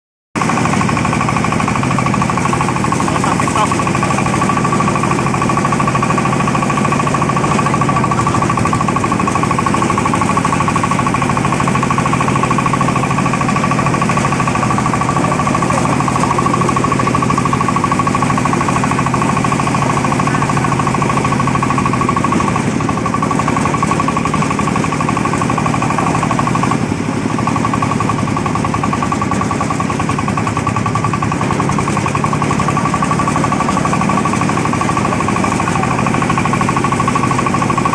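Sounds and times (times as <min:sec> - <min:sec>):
diesel engine clattering: 0:00.4 - 0:37.9.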